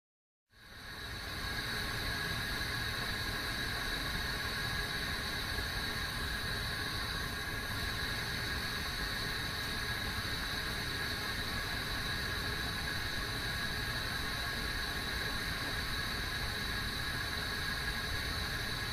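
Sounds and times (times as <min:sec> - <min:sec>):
kettle heating water: 0:00.6 - 0:18.9.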